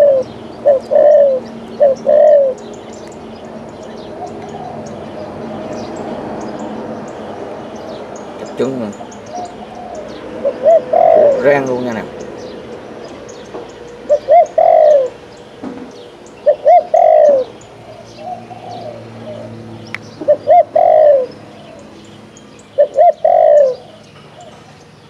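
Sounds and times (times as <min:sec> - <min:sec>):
dove cooing: 0:00.0 - 0:06.8, 0:08.4 - 0:12.2, 0:13.1 - 0:15.4, 0:16.4 - 0:22.0, 0:22.6 - 0:24.8
small birds chirping: 0:00.0 - 0:25.0.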